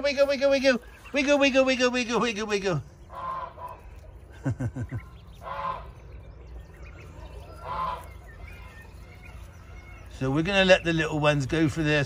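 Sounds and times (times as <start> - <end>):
ducklings calling: 0.0 - 12.0.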